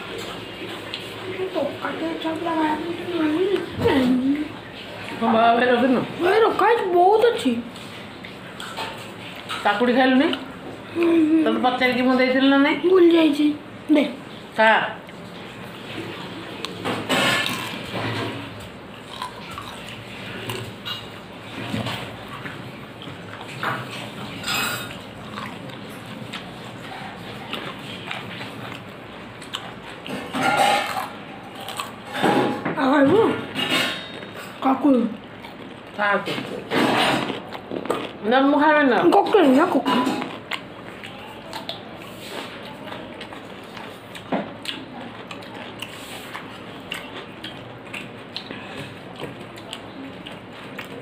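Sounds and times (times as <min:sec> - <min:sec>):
chewing: 0:06.5 - 0:12.2, 0:15.0 - 0:32.6, 0:33.4 - 0:51.0.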